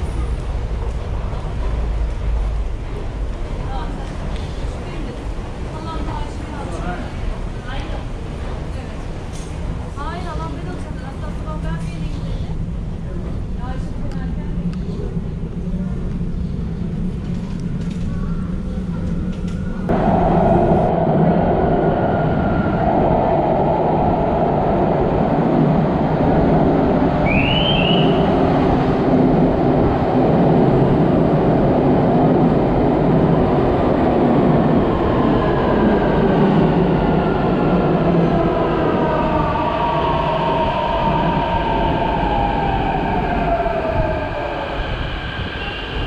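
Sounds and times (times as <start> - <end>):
metro train rumble: 0.0 - 46.0.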